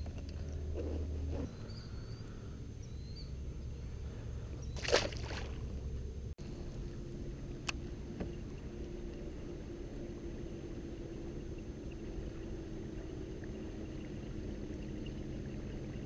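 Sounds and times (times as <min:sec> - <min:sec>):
low hum: 0:00.0 - 0:16.0
water lapping around kayak: 0:00.1 - 0:16.0.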